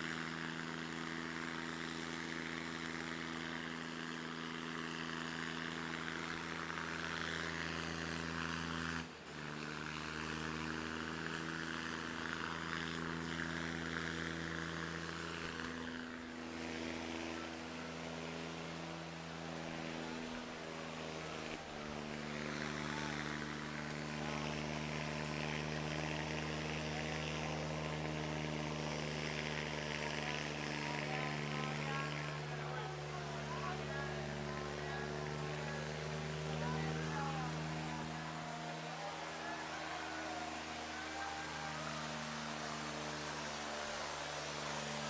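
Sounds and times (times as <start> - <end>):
tractor diesel engines at full throttle: 0.0 - 45.0.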